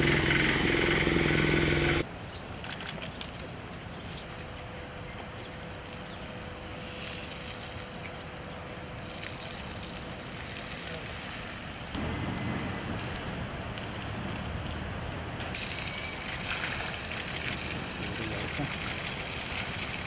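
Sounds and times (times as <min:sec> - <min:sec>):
garden hose water spraying: 0:00.0 - 0:20.0.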